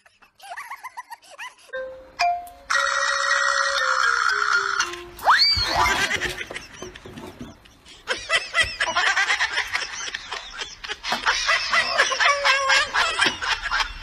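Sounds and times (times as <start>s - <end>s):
high-pitched laughter: 0.0s - 1.8s, 3.7s - 14.0s.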